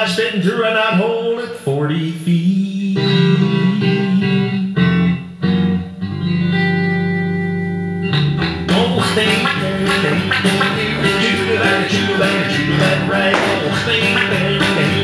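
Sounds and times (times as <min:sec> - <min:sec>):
country guitar instrumental: 0:03.0 - 0:15.0.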